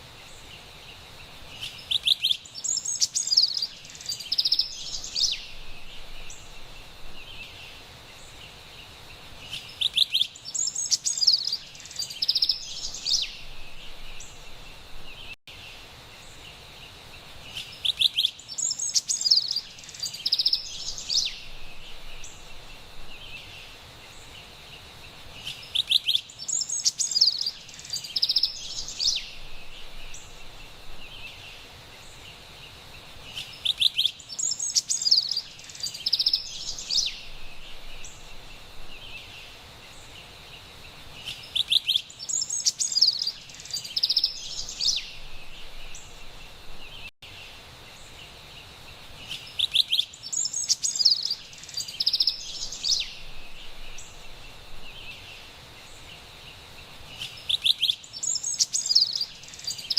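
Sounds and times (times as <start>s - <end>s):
faint steady hiss: 0.0s - 59.9s
wren singing: 1.5s - 15.4s, 17.5s - 24.4s, 25.4s - 32.4s, 33.2s - 40.2s, 41.1s - 47.1s, 49.2s - 56.3s, 57.1s - 59.9s.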